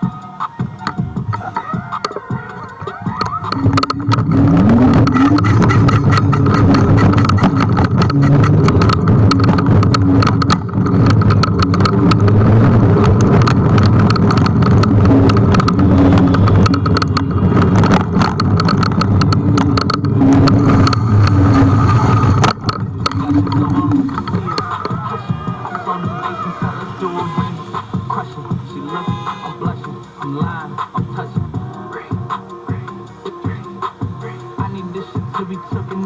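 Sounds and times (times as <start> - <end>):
electric scooter hum: 0.0 - 35.3
sharp rattles and knocks: 0.6 - 29.9.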